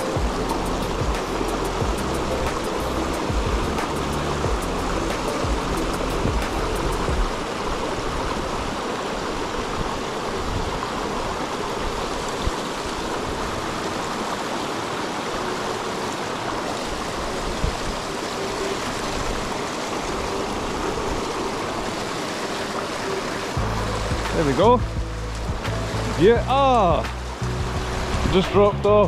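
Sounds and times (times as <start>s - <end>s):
stream rushing over stones: 0.0s - 29.0s.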